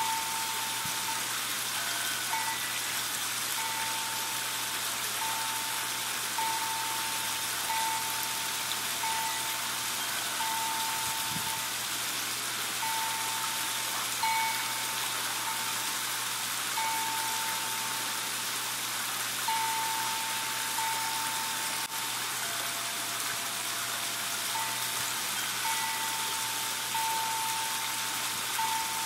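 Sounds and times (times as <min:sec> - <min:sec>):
waterfall splashing into pond: 0:00.0 - 0:29.0.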